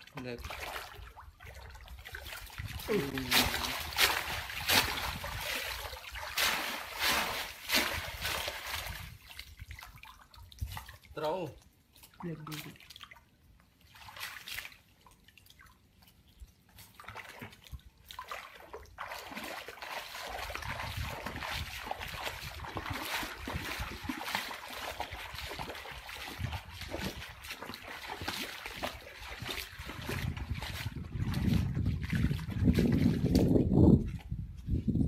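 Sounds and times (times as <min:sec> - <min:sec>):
water splashing and trickling: 0:00.0 - 0:35.0.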